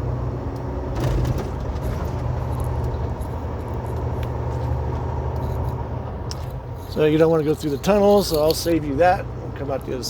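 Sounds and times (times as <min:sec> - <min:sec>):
road noise: 0:00.0 - 0:10.0
truck diesel engine running: 0:00.0 - 0:10.0.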